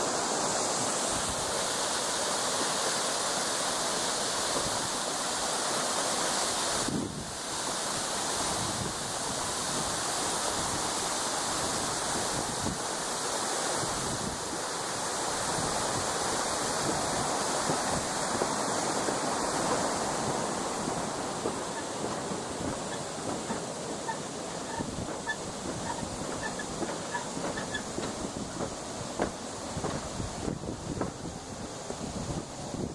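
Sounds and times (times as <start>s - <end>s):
mountain stream rushing: 0.0s - 32.9s.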